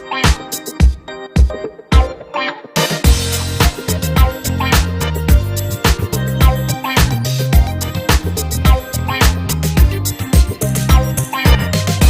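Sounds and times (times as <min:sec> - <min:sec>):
dance music with bass line: 0:00.0 - 0:02.2, 0:02.8 - 0:12.0.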